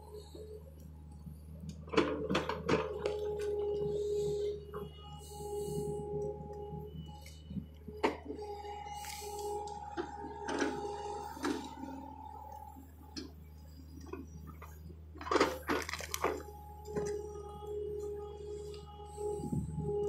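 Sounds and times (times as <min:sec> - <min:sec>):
excavator engine humming: 0:00.0 - 0:20.0.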